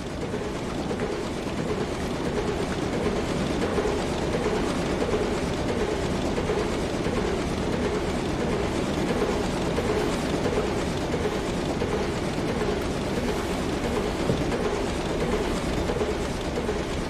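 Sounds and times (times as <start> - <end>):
diesel engines running: 0.0 - 17.0
rhythmic mechanical clatter: 0.0 - 17.0.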